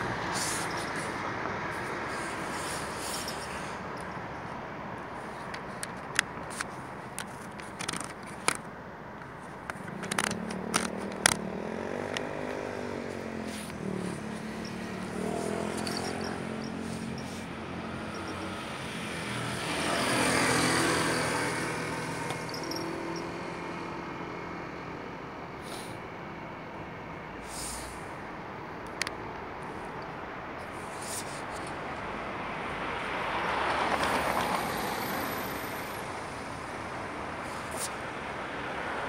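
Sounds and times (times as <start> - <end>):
vehicles passing on road: 0.0 - 39.0.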